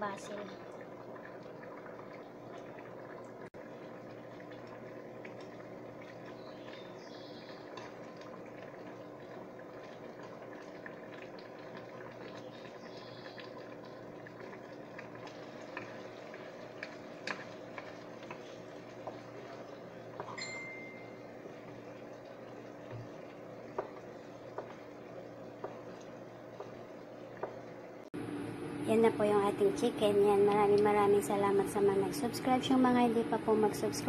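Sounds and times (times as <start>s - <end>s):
sauce simmering and bubbling: 0.0s - 28.1s.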